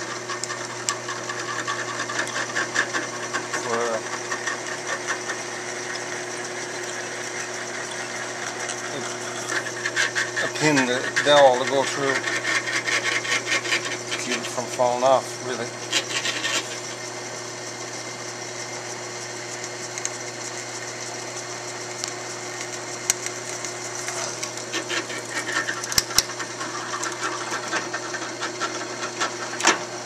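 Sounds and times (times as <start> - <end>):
drill press drilling: 0.0 - 19.2, 20.2 - 30.0.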